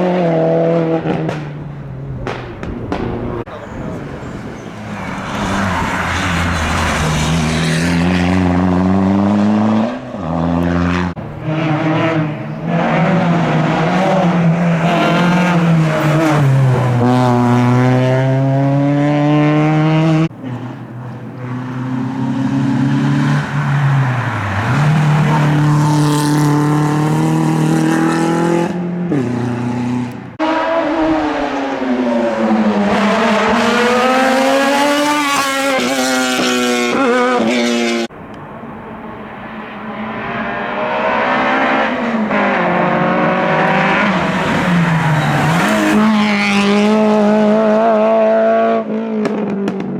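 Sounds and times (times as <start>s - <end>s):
race car engines revving: 0.0s - 49.9s.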